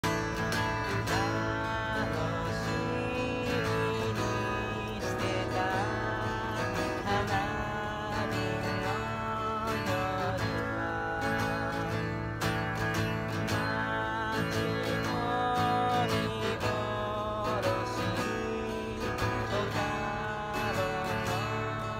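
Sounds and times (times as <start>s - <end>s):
acoustic guitar strumming: 0.0s - 21.9s
man singing: 0.0s - 21.9s.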